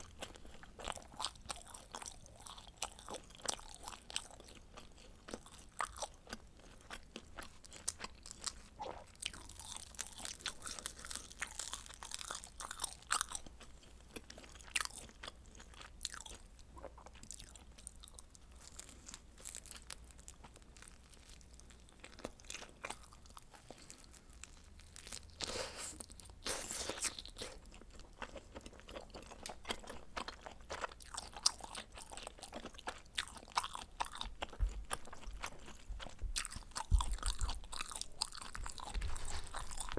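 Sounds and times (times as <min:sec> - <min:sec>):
crunching of pizza crust: 0:00.0 - 0:39.9
wet chewing: 0:00.0 - 0:39.9.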